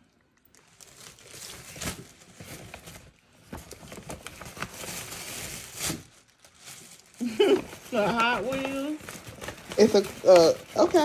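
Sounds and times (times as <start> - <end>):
paper bag and tissue rustling: 0.5 - 11.0.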